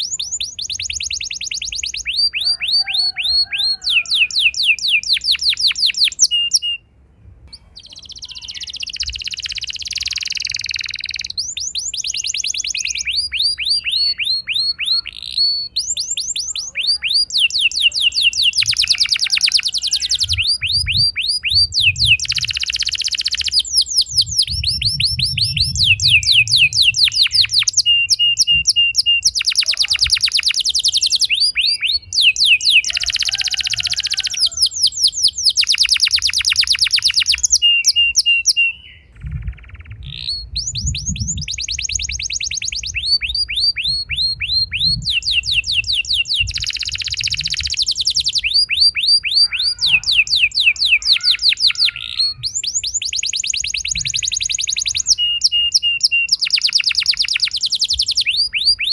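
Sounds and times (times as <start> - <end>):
canary singing trills: 0.0 - 6.9, 7.5 - 58.9.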